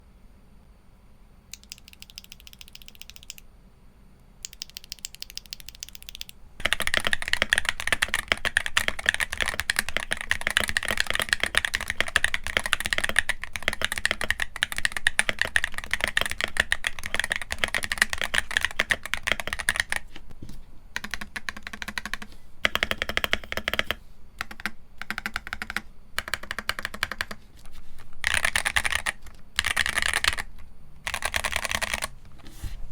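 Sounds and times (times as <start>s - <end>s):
keyboard typing: 1.5s - 3.4s, 4.4s - 20.2s, 21.0s - 32.2s.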